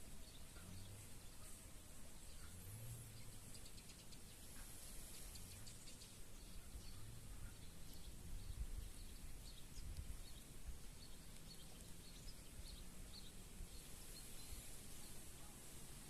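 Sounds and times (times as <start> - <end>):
distant bird chirps: 0.0 - 15.8
steady high hiss: 0.0 - 16.0.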